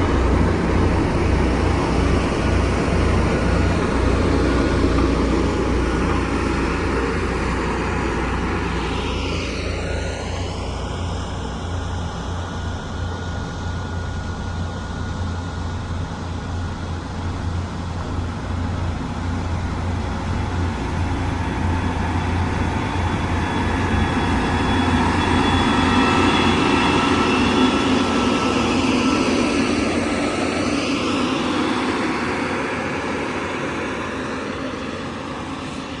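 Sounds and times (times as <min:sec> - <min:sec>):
diesel engine working: 0:00.0 - 0:36.0.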